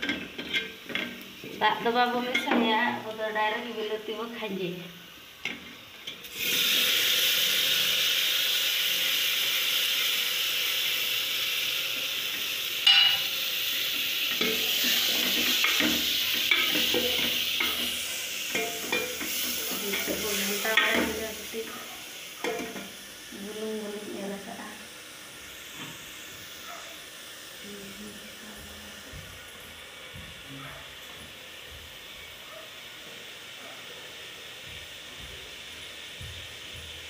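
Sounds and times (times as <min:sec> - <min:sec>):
food sizzling in a pot: 0:00.0 - 0:37.0.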